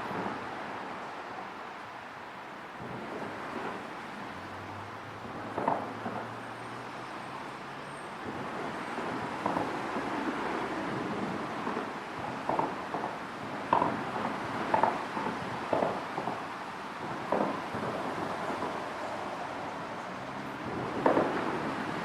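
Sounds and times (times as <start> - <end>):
traffic rumbling over bridge: 0.0 - 22.0.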